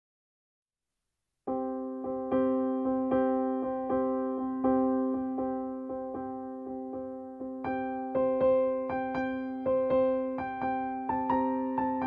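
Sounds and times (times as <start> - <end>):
soft piano notes: 1.5 - 12.0.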